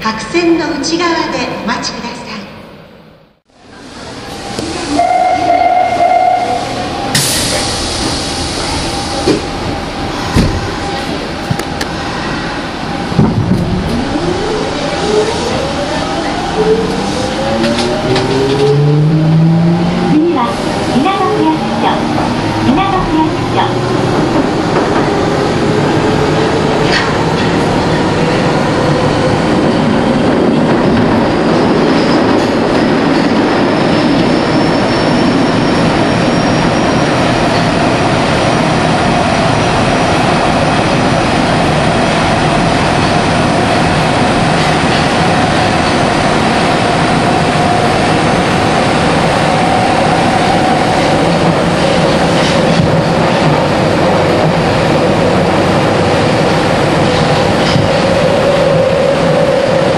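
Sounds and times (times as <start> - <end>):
train wheels roaring on rail: 3.4 - 59.9.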